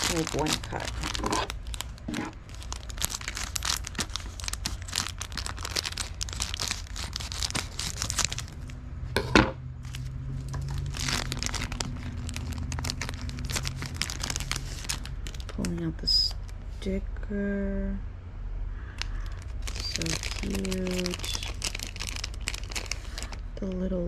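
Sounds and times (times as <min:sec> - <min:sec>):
plastic bags crinkling and tearing: 0:00.0 - 0:08.8, 0:09.8 - 0:16.6, 0:19.0 - 0:23.5.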